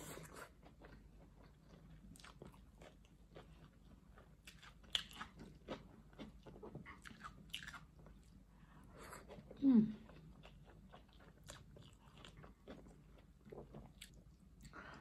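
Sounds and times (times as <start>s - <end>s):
chewing with wet mouth smacks: 0.2s - 15.0s.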